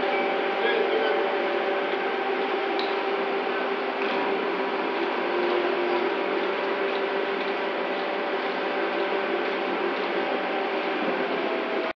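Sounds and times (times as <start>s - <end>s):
crane hoist machinery drone: 0.0s - 11.9s.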